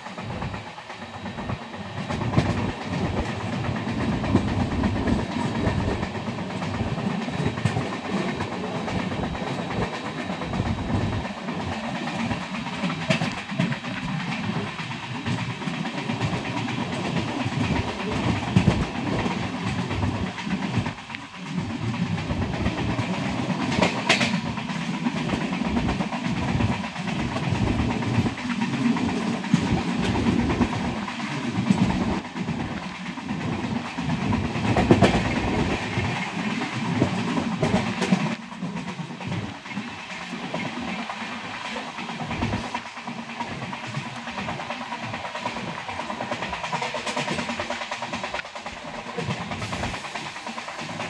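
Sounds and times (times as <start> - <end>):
train coach rumble and rattle: 0.0 - 51.0
wheels clicking over rail joints: 0.3 - 51.0.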